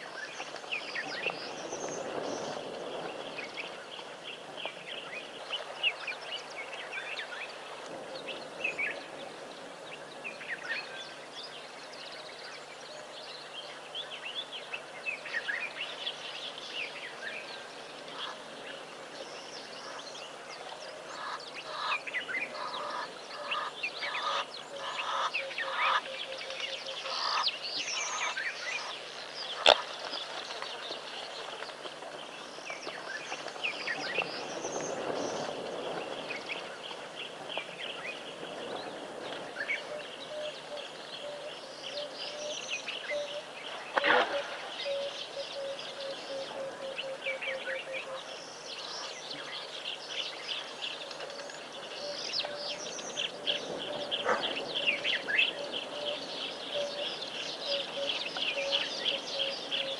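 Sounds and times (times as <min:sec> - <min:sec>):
wild birds calling and chirping: 0:00.0 - 0:59.9.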